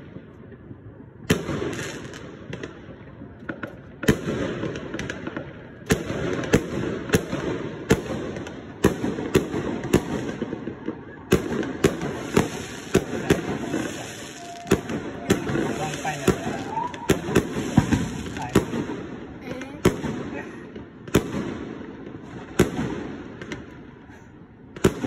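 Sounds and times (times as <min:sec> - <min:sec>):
distant fireworks rumble: 0:00.0 - 0:25.0
fireworks bangs: 0:00.0 - 0:25.0.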